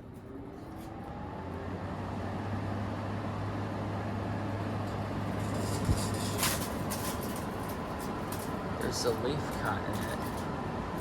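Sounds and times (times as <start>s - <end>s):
air conditioner fan running: 0.0s - 11.0s.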